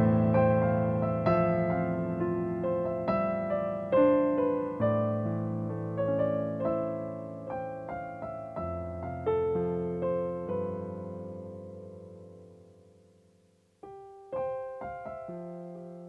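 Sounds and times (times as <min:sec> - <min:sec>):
digital piano playing: 0:00.0 - 0:13.0, 0:13.8 - 0:16.0.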